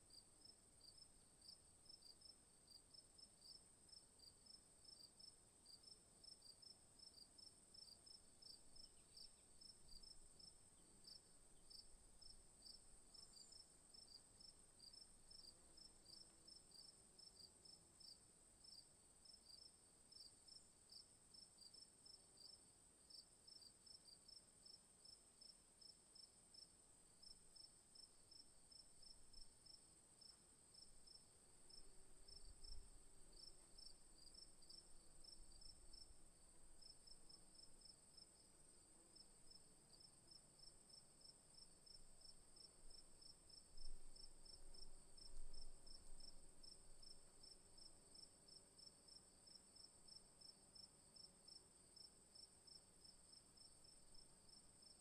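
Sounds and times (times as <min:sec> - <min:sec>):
insect drone: 0:00.1 - 0:55.0
crickets chirping: 0:07.1 - 0:21.0, 0:24.3 - 0:55.0.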